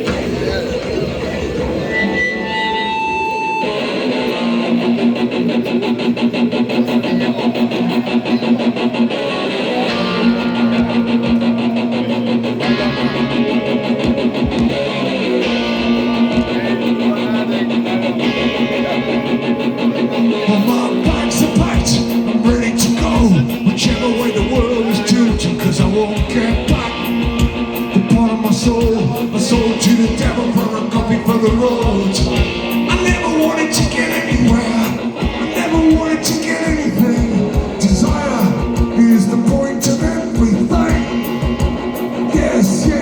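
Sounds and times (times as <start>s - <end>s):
strummed guitars: 0.0s - 43.0s.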